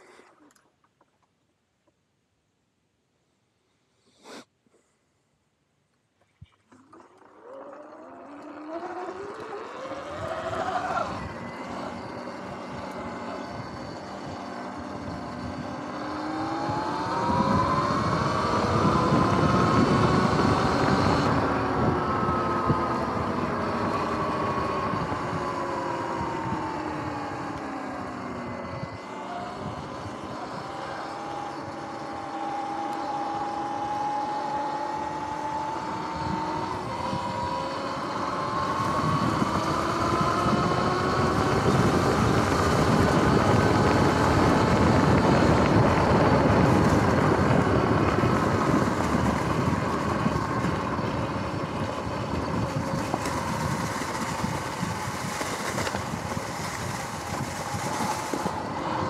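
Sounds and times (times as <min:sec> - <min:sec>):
electric motor whine: 0:06.7 - 0:59.0
wind noise on microphone: 0:08.4 - 0:59.0.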